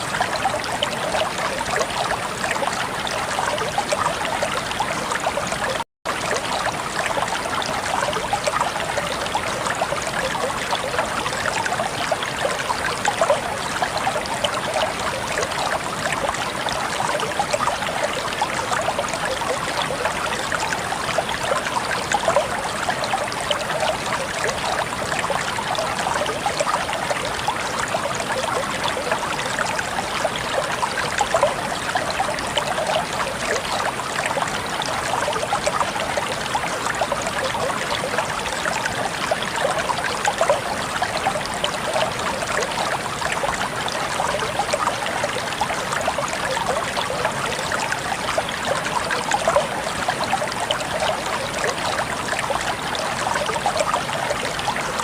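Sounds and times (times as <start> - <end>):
flowing stream water: 0.0 - 55.0.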